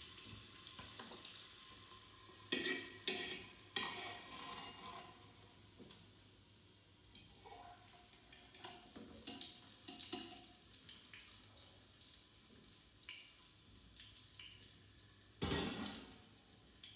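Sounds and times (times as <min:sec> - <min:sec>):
soft cooking hiss: 0:00.0 - 0:16.9.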